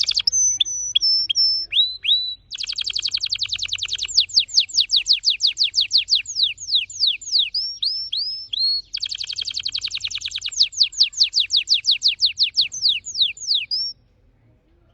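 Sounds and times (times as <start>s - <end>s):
canary singing: 0.0s - 14.0s.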